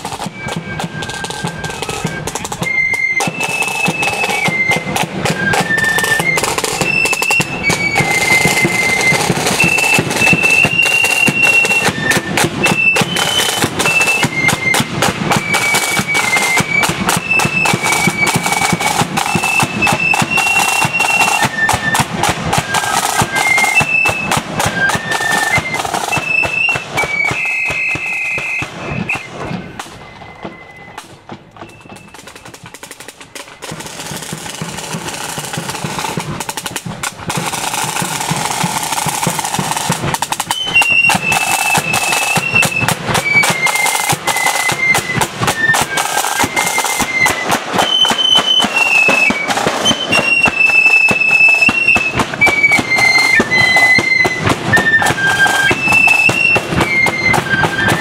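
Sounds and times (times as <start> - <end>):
flutes playing high melody: 0.0 - 58.0
side drum strokes: 0.0 - 58.0.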